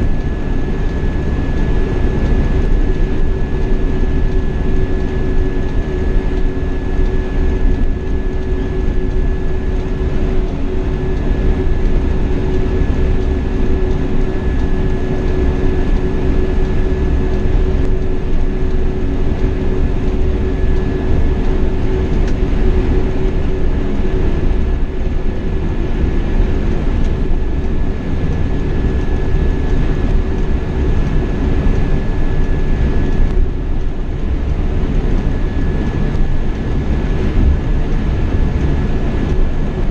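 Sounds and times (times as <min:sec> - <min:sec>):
coach engine and road rumble: 0:00.0 - 0:39.9.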